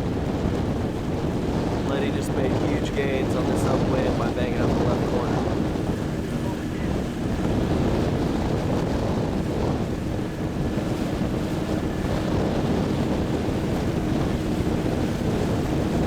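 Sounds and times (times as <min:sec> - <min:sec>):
open water: 0:00.0 - 0:16.0
wind buffeting microphone: 0:00.0 - 0:16.0.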